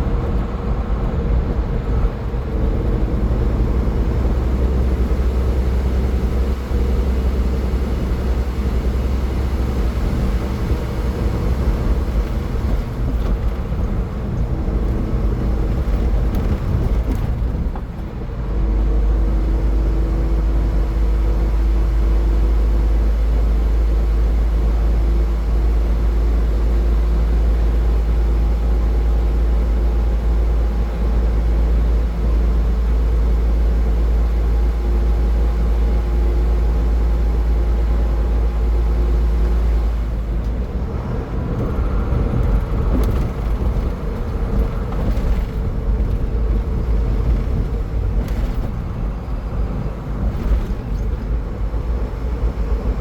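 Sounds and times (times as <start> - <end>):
car engine hum: 0.0 - 53.0
road and tyre rumble: 0.0 - 53.0.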